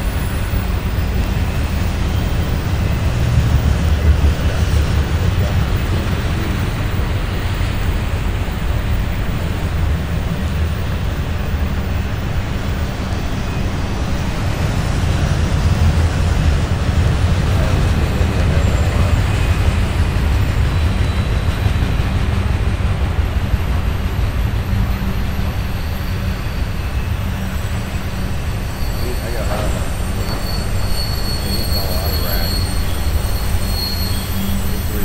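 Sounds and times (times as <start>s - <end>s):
freight train rolling past: 0.0s - 35.0s.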